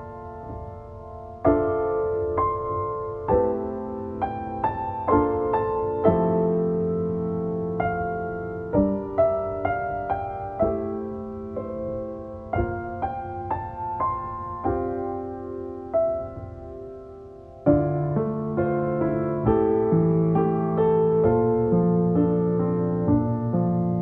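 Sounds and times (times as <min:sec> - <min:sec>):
slow gentle piano music: 0:00.0 - 0:24.0.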